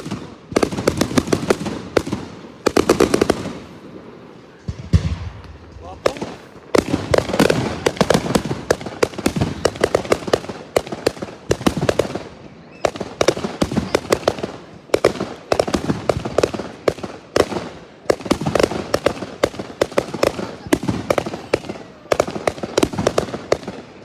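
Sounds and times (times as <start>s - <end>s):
fireworks cracking and banging: 0.0s - 24.0s.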